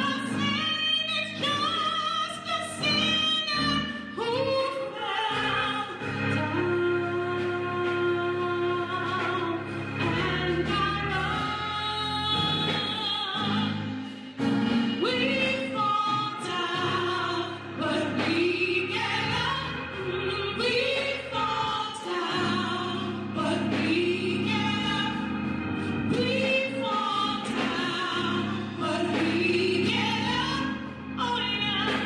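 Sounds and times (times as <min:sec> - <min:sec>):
gospel singing with vibrato: 0:00.0 - 0:32.0
sustained instrumental accompaniment: 0:00.0 - 0:32.0.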